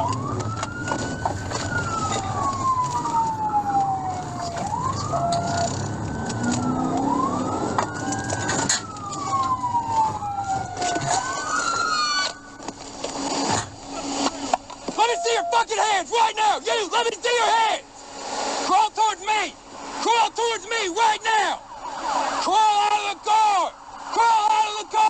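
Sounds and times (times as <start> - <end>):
car road and engine noise: 0.0 - 15.1, 17.6 - 25.0
police siren wailing: 0.0 - 17.5, 21.0 - 25.0.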